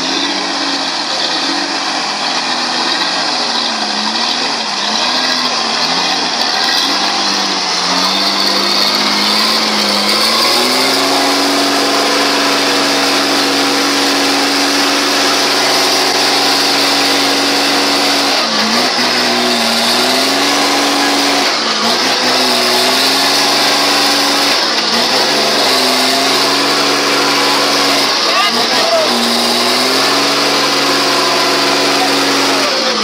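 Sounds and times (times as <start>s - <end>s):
truck diesel engine revving hard: 0.0s - 33.0s.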